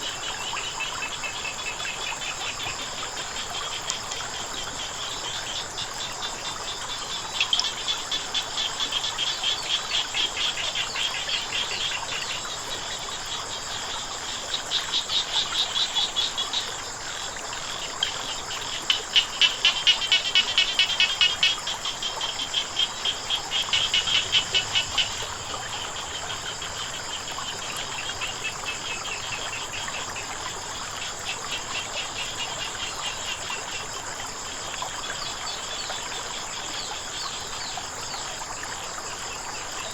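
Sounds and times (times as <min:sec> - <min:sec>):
faint running water: 0:00.0 - 0:39.9
frogs croaking: 0:00.0 - 0:39.9
high insect drone: 0:00.0 - 0:39.9.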